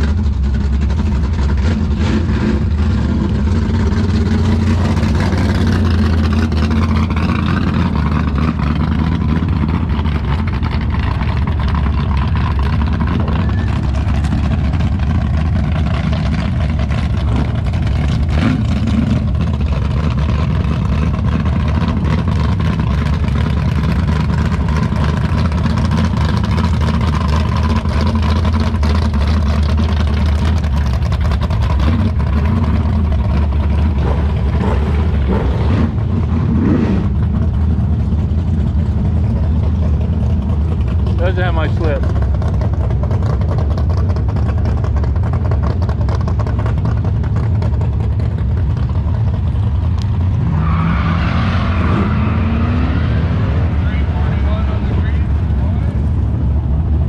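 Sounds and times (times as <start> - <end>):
car engine idling: 0.0 - 50.8, 53.4 - 57.0.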